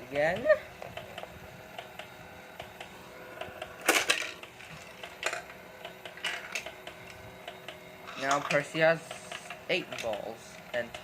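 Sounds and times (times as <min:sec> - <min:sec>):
toy motor hum with ticking: 0:00.0 - 0:11.0.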